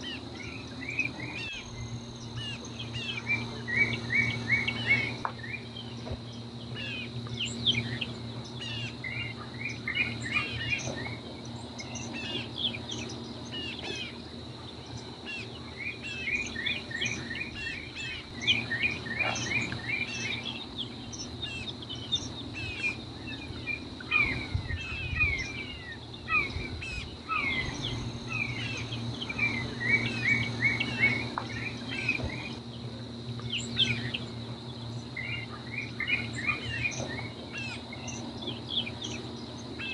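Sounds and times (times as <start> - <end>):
high-pitched insect drone: 0.0 - 39.9
low steady hum: 0.0 - 39.9
wild birds chirping: 0.0 - 39.9.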